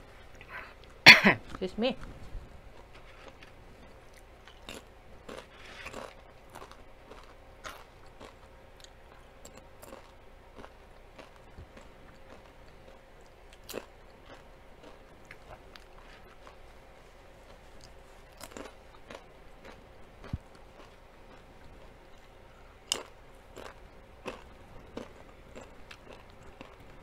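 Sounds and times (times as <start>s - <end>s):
person chewing crunchy food: 2.7s - 27.0s.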